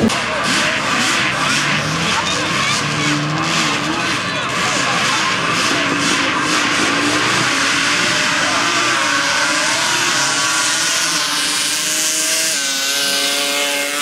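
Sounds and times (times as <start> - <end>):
racing engines revving high: 0.0 - 14.0.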